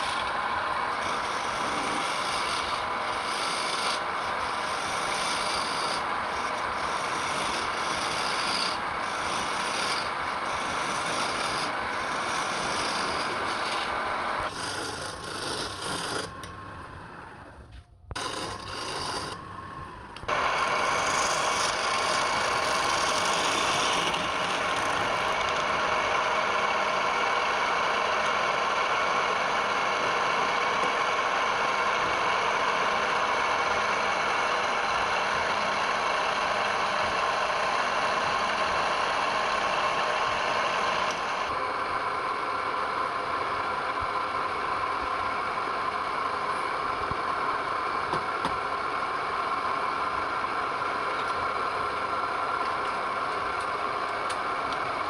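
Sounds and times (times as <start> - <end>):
wood lathe motor hum: 0.0 - 55.0.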